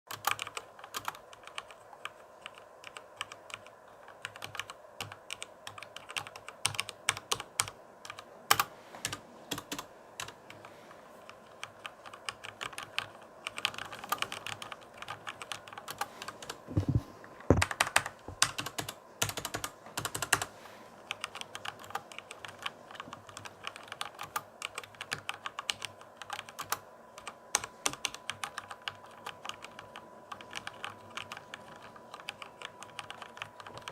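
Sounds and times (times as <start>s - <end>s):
computer keyboard typing: 0.1s - 20.5s, 21.1s - 33.9s.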